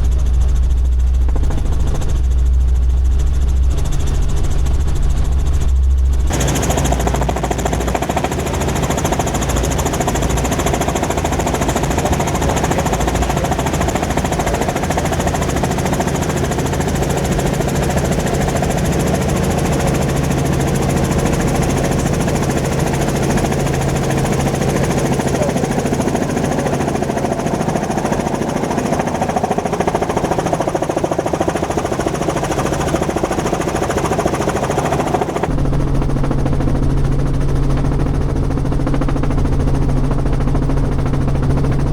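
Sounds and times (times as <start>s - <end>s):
helicopter rotor chopping: 0.0s - 41.9s.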